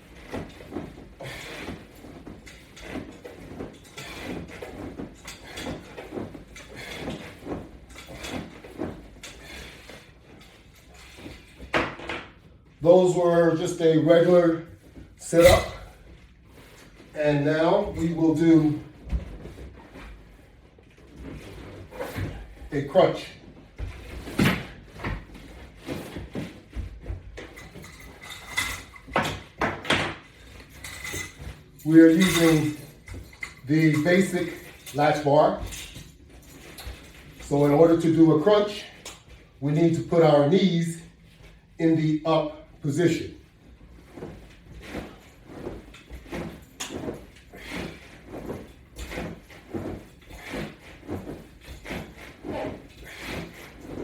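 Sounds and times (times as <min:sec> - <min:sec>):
resistance band exercise reps: 0:00.0 - 0:54.0.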